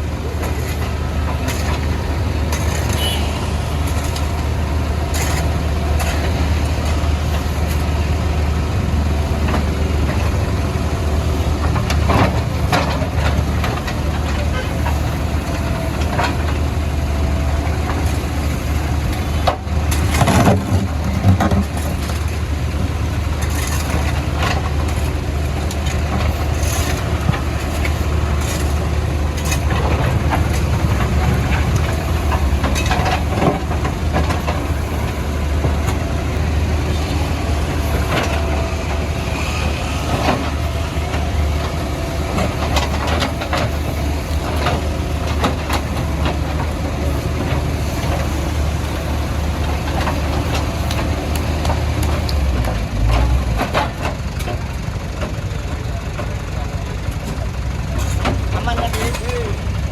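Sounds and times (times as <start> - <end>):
knocks and scrapes on road surface: 0.0 - 16.9, 17.6 - 54.6
diesel engine running under load: 0.0 - 59.9.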